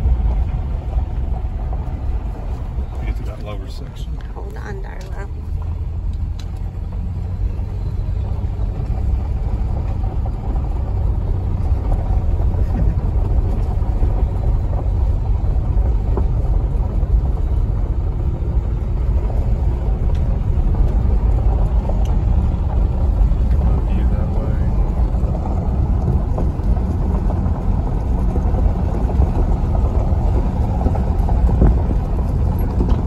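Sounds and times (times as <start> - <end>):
car tyres rumbling on gravel: 0.0 - 33.0.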